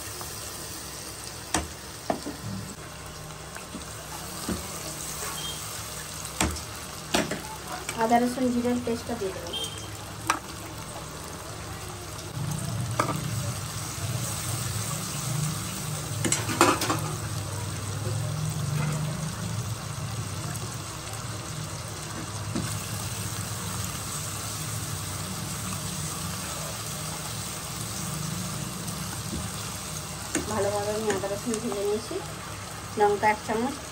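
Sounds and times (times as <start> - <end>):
paste sizzling in hot oil: 0.0 - 33.9.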